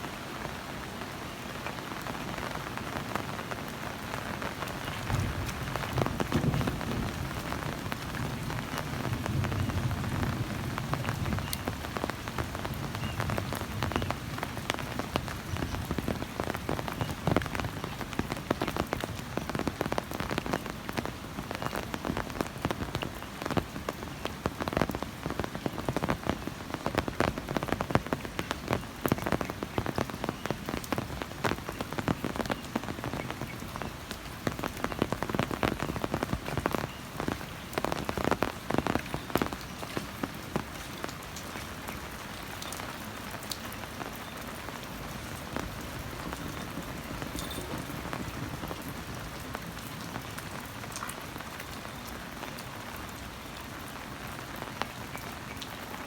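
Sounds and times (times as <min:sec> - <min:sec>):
heavy rain: 0:00.0 - 0:56.0
raindrop hits close to microphone: 0:00.0 - 0:56.0.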